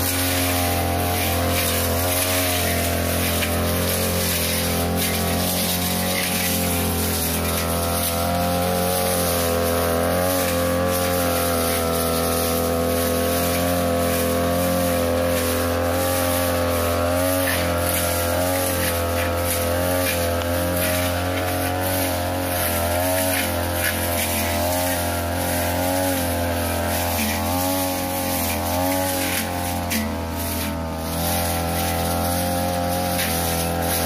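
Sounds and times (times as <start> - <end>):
brush cutter engine running: 0.0 - 34.0.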